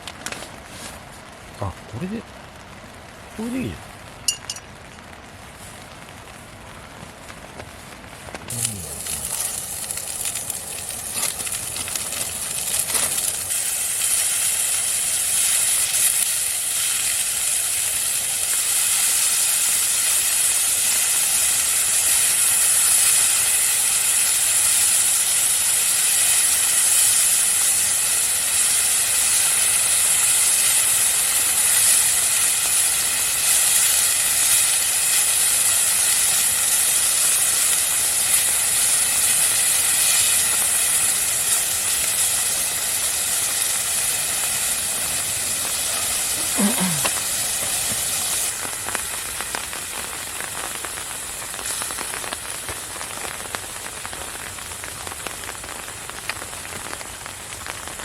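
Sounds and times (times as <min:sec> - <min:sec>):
food sizzling in a hot pan: 0:03.4 - 0:05.0, 0:08.5 - 0:58.0.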